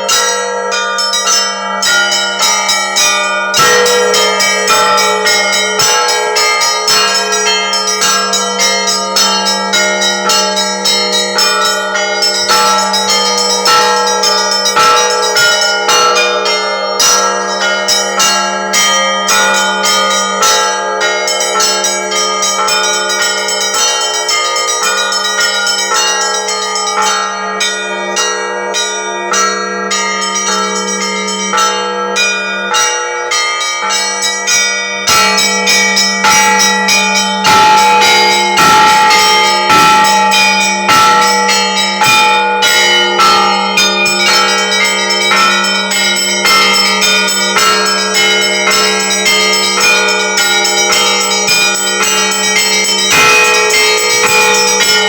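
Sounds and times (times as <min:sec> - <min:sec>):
church bells ringing a peal: 0:00.0 - 0:55.0
steady low bell tone: 0:00.0 - 0:55.0.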